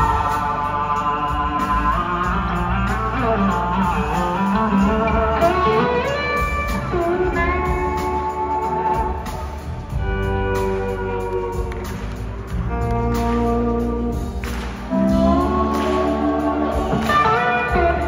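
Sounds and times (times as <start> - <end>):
bass guitar: 0.0 - 18.0
drums: 0.0 - 18.0
electric slide guitar: 0.0 - 18.0.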